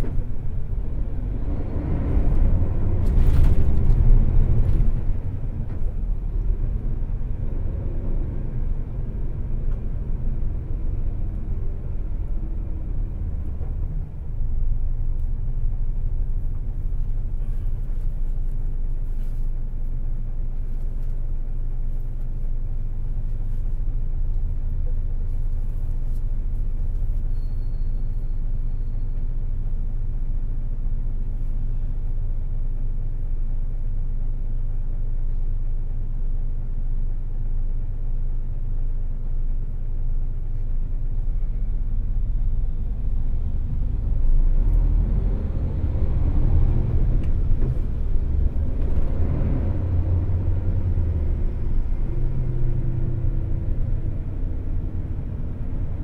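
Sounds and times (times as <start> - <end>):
diesel bus engine rumble: 0.0 - 56.0.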